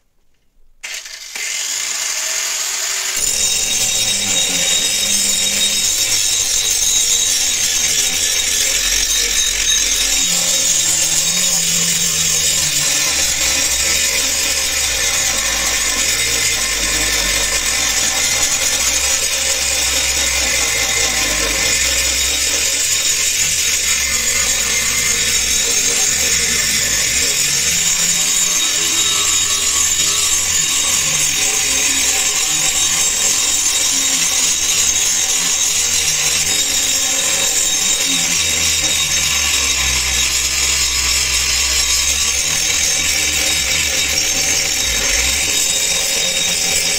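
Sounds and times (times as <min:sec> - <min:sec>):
angle grinder grinding metal: 0:00.8 - 0:46.9.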